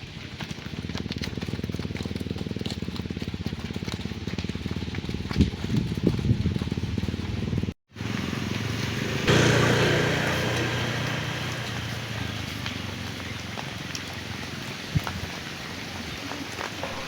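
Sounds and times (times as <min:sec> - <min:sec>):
small engine pulsing: 0:00.5 - 0:14.9, 0:16.8 - 0:17.0.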